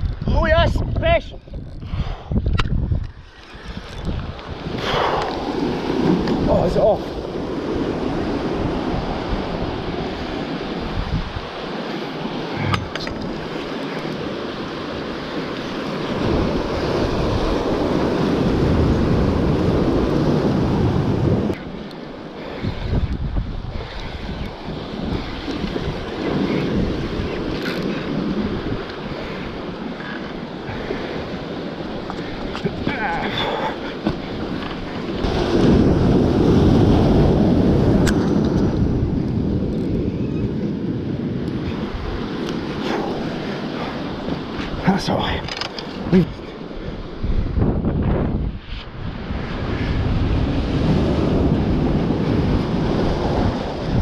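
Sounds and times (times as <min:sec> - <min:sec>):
wind buffeting microphone: 0:00.0 - 0:54.0
sea waves breaking over rocks: 0:02.7 - 0:54.0.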